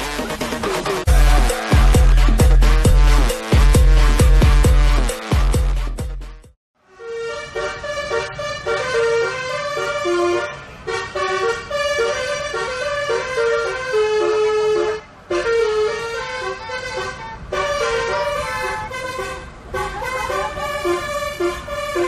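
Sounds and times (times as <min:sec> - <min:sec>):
multi-tone air horn tune: 0:01.1 - 0:06.0, 0:06.8 - 0:22.0.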